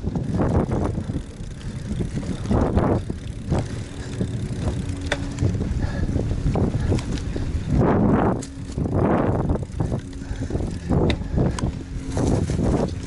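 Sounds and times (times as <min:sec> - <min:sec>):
bike rattling over bumps: 0:00.0 - 0:13.0
bike tyres rumbling on dirt: 0:00.0 - 0:13.0
wind buffeting microphone: 0:00.0 - 0:13.0.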